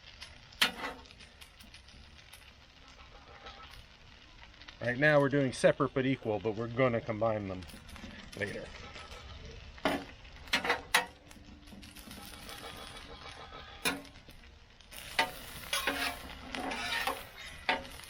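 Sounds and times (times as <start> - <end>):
food sizzling: 0.0 - 18.0
spatula scraping on griddle: 0.1 - 4.6, 7.7 - 18.0.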